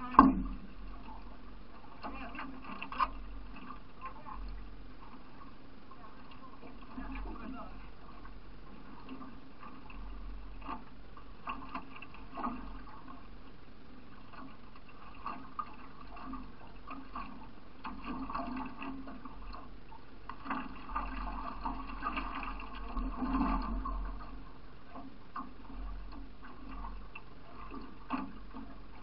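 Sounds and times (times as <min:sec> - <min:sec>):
river water splashing against hull: 0:00.0 - 0:29.0.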